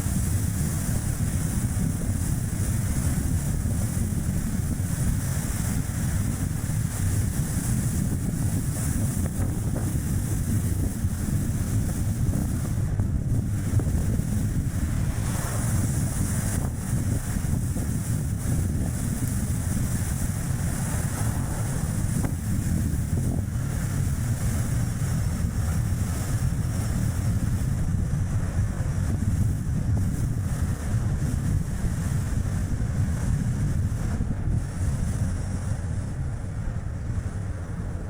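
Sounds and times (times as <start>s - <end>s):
road and tyre noise: 0.0s - 38.0s
wind buffeting microphone: 0.0s - 38.0s.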